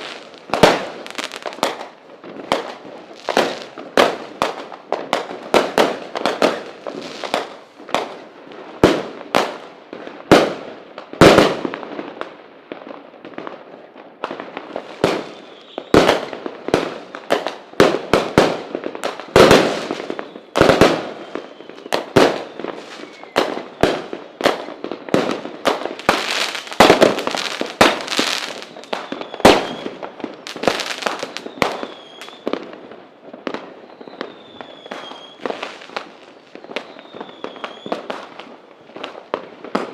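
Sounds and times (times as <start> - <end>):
faint fireworks whistling: 0.0 - 39.9
fireworks bangs and crackles: 0.0 - 39.9.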